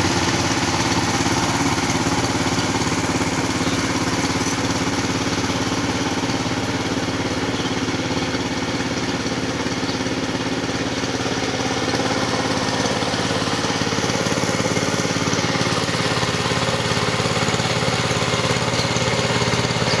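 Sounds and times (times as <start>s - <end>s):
ploughing machine engine running: 0.0s - 20.0s.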